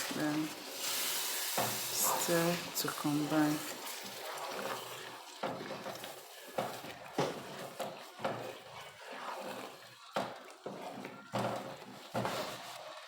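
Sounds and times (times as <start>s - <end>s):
spoon scraping a pot: 0.0s - 13.0s.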